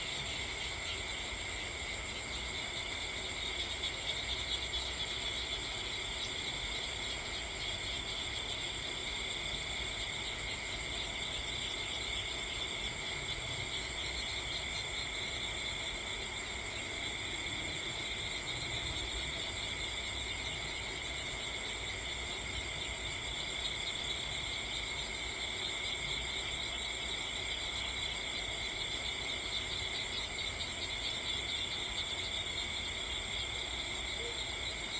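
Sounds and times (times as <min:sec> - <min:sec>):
crickets trilling: 0:00.0 - 0:34.9.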